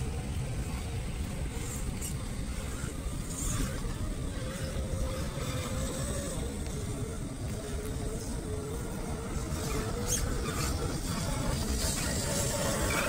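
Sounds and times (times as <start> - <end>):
steady rumble: 0.0 - 13.0
toy car motor whining: 1.5 - 13.0.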